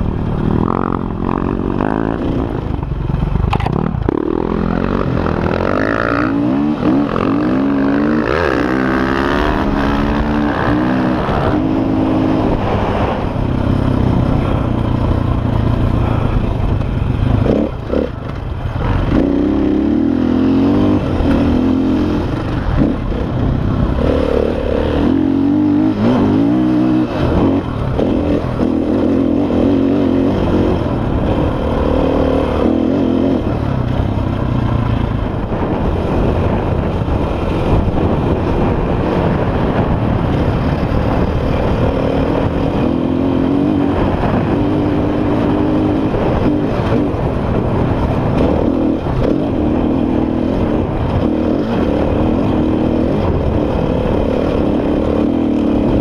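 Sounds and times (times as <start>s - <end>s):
dirt bike engine revving: 0.0s - 2.8s, 3.5s - 56.0s.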